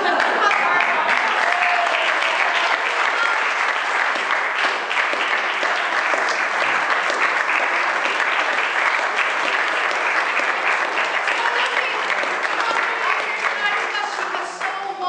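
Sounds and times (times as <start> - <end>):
crowd applauding: 0.0 - 14.9.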